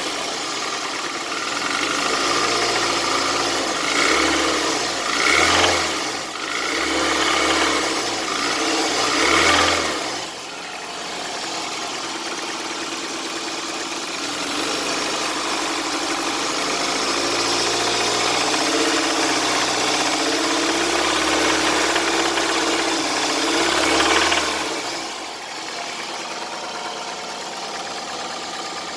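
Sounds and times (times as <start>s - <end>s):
car engine revving and idling: 0.0s - 28.9s
engine knocking: 0.0s - 28.9s.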